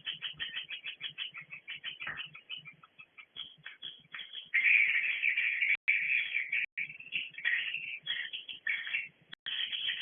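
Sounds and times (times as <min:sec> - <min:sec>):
swiftlets twittering: 0:00.0 - 0:10.0.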